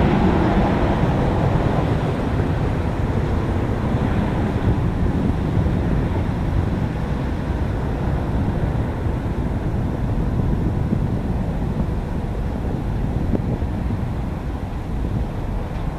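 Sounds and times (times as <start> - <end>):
jet engine rumble: 0.0 - 15.9.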